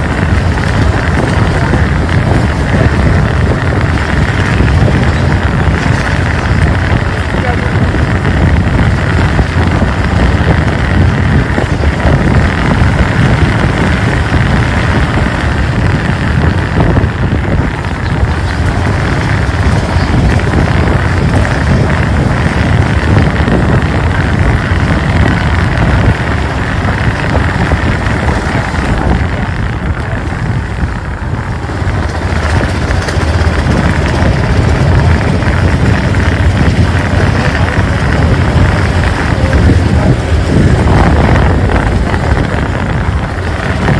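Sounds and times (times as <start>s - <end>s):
motorcycle engine running: 0.0s - 43.9s
wind on microphone: 0.0s - 43.9s.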